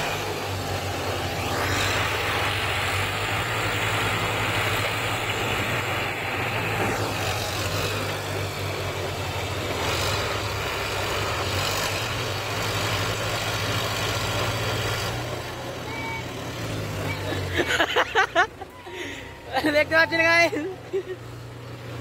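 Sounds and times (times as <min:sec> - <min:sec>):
diesel tractor engines running: 0:00.0 - 0:22.0.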